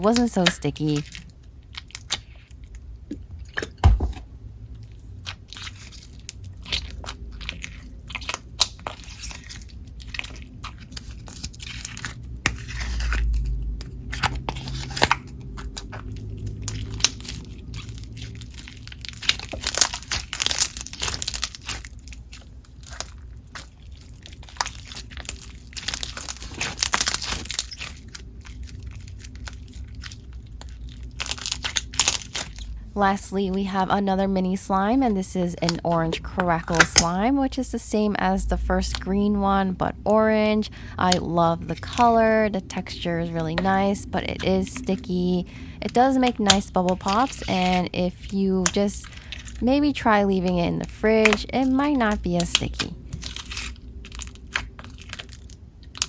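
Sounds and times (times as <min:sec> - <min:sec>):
crackling slime squished by hands: 0:00.0 - 0:03.3, 0:04.7 - 0:56.0.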